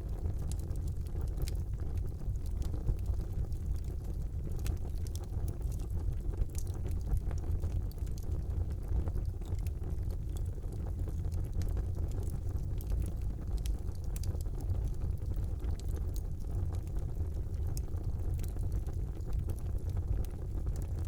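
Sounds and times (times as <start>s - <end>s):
fire crackling in fireplace: 0.0s - 21.0s.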